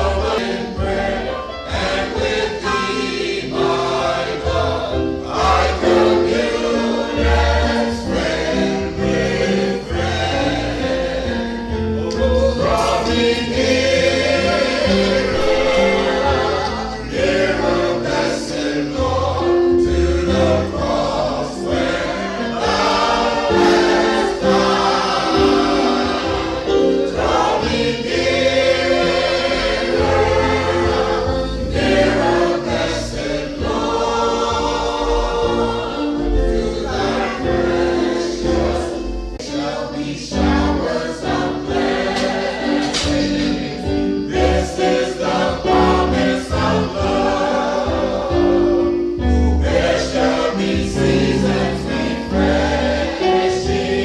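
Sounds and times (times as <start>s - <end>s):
choir singing gospel: 0.0s - 54.0s.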